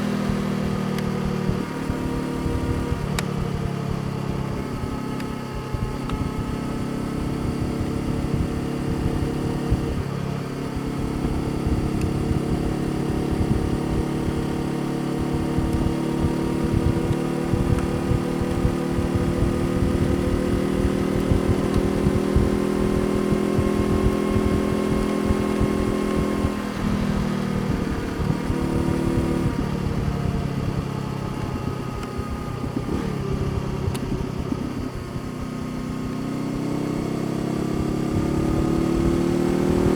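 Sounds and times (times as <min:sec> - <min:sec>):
low wind rumble: 0:00.0 - 0:39.9
motorcycle engine running: 0:00.0 - 0:39.9.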